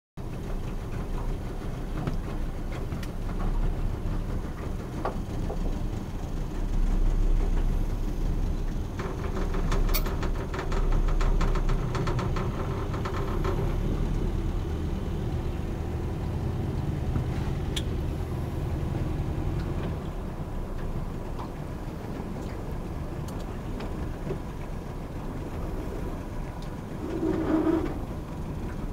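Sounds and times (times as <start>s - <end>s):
boat engine rumbling: 0.2s - 28.9s.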